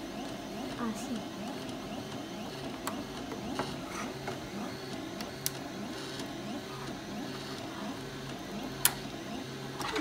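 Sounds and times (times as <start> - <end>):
mechanical whirring with warble: 0.0 - 10.0.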